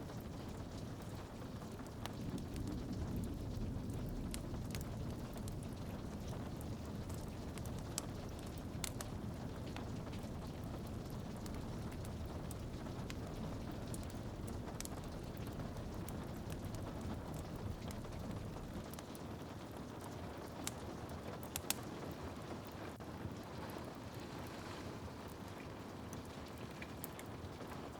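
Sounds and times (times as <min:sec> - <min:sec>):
rain on a window: 0:00.0 - 0:27.9
wood fire crackling: 0:00.0 - 0:27.9.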